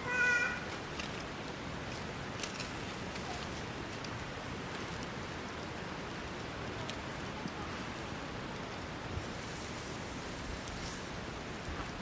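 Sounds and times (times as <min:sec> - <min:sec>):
fire crackles: 0:00.3 - 0:12.0
wood fire hissing: 0:00.6 - 0:12.0.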